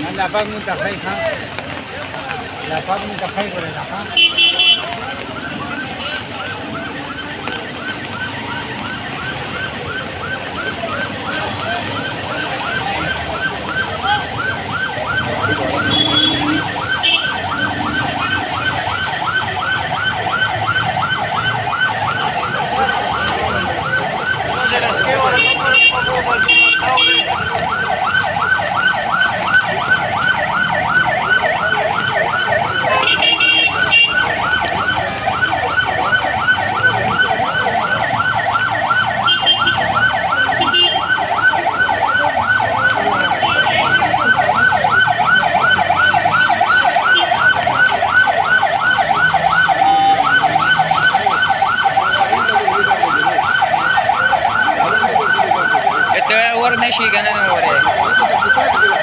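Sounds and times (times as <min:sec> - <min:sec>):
siren warbling: 0:04.9 - 0:59.0.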